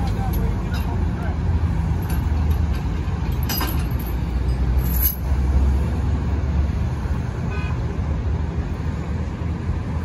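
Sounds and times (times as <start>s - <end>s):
highway traffic rumble: 0.0s - 10.0s.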